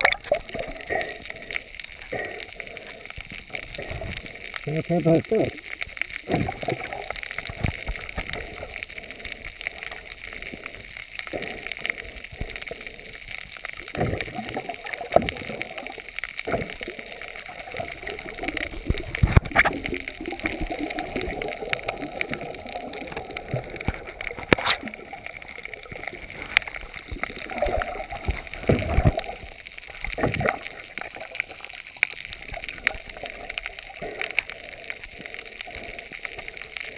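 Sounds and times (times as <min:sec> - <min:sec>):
water gurgling and sloshing: 0:00.0 - 0:36.9.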